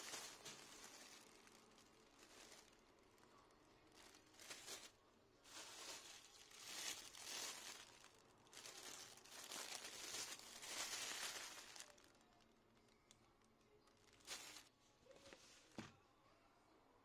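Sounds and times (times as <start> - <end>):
plastic bag crinkling: 0.0 - 13.2, 13.8 - 14.7.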